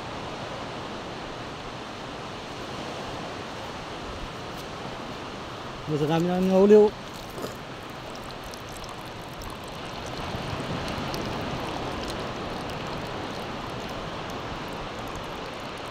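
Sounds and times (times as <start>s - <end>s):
surf washing up beach: 0.0s - 15.9s.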